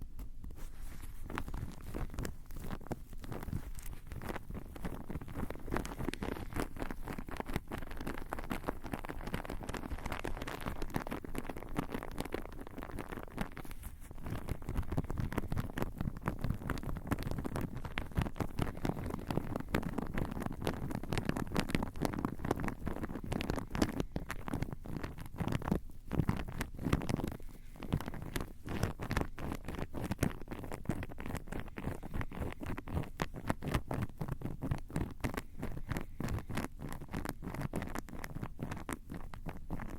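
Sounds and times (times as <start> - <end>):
tapping on recorder microphones: 0.0 - 39.9.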